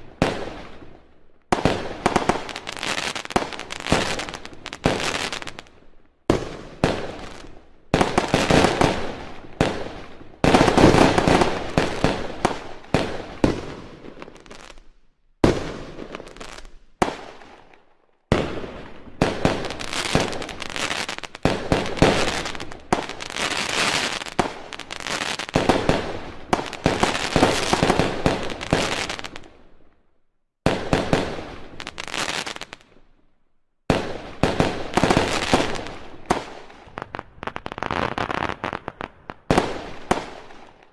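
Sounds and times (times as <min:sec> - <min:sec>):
fireworks cracking and banging: 0:01.5 - 0:14.8, 0:18.3 - 0:29.6, 0:30.7 - 0:33.0, 0:33.9 - 0:40.9.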